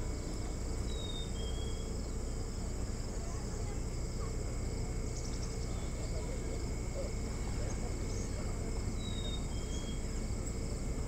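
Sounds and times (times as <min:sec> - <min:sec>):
crickets trilling: 0:00.0 - 0:11.0
low steady rumble: 0:00.0 - 0:11.0.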